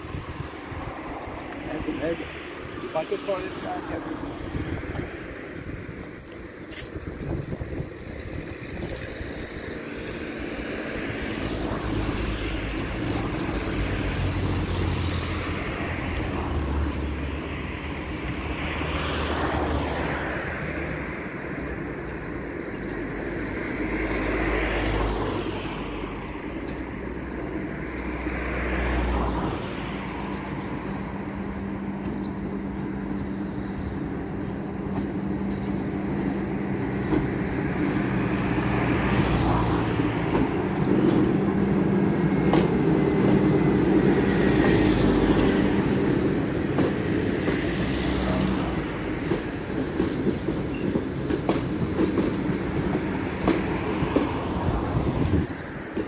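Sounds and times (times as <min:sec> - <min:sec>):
locomotive approaching: 0:00.0 - 0:56.0
road vehicles passing: 0:00.0 - 0:56.0.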